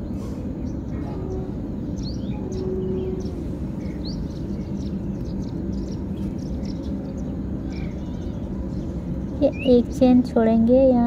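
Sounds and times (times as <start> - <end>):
faint hum: 0.0 - 11.0
low background rumble: 0.0 - 11.0
small birds chirping: 0.0 - 11.0.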